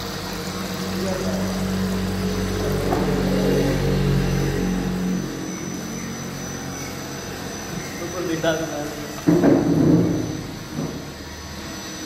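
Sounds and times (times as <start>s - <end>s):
machinery motor hum: 0.0s - 12.0s.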